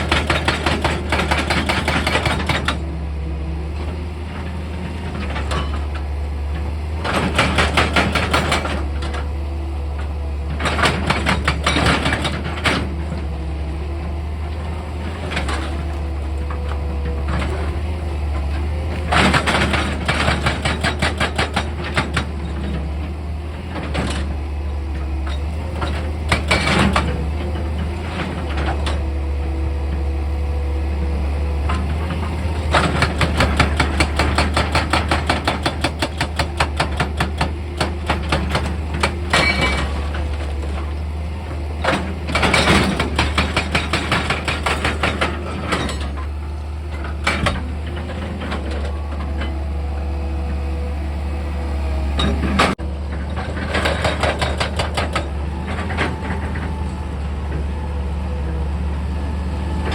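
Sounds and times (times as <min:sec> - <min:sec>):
heavy machine engine humming: 0:00.0 - 0:59.9.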